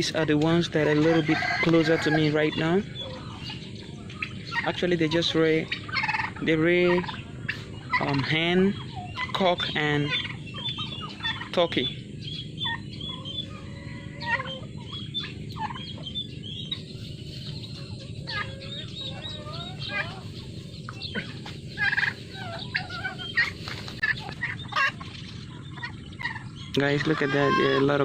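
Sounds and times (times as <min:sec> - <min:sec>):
turkeys gobbling: 0:00.0 - 0:28.0.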